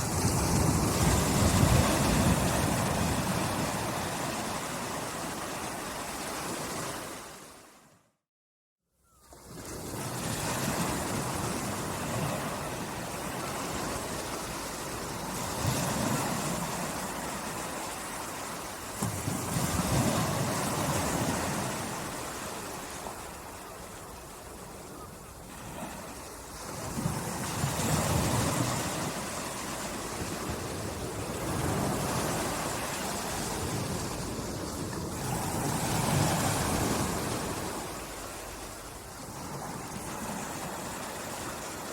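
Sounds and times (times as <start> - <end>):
small waves lapping on shore: 0.0 - 7.8, 9.1 - 41.9
wind: 0.0 - 41.9.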